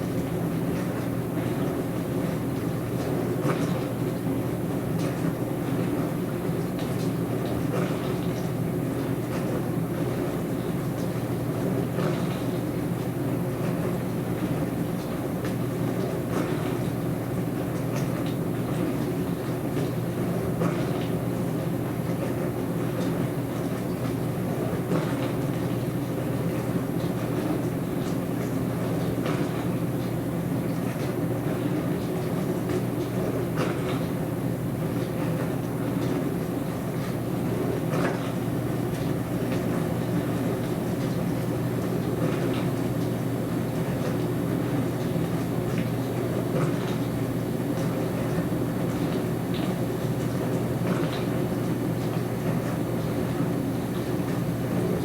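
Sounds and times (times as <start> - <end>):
dishwasher humming: 0.0 - 55.0.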